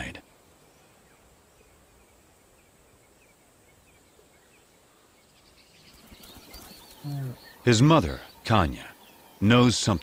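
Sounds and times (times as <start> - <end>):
bird chirps: 0.0 - 10.0
insects hissing: 0.0 - 10.0.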